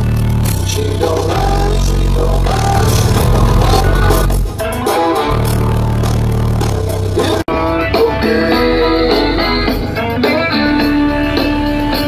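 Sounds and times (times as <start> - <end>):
deep subwoofer bass notes: 0.0 - 10.1
car stereo playing loud music: 0.0 - 12.0.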